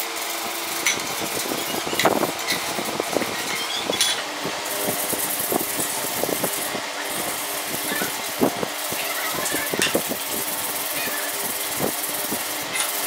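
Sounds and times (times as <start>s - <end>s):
sandpaper scraping metal: 0.6s - 13.0s.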